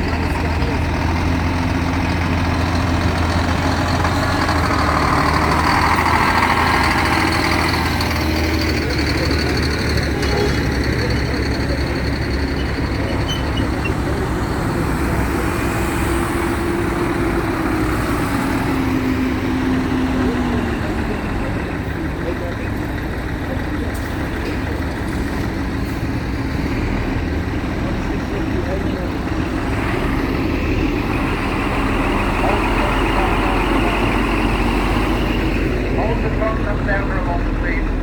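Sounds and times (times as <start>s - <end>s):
heavy vehicle engines running: 0.0s - 38.0s.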